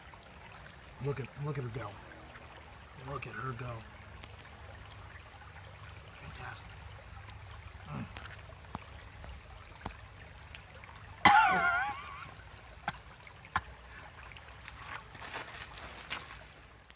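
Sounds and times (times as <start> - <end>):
creek water trickling: 0.0 - 16.9.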